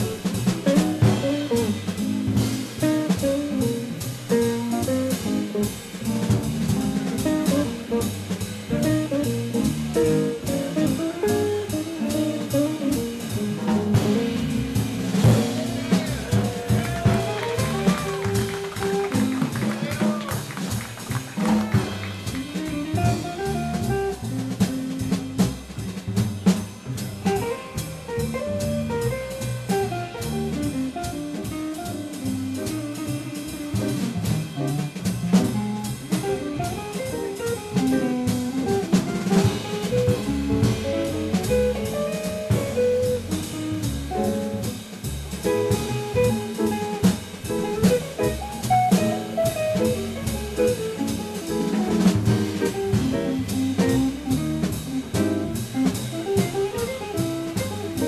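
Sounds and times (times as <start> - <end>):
drum kit cymbals and drums: 0.0 - 58.0
jazz guitars playing: 0.0 - 58.0
upright bass: 0.0 - 58.0.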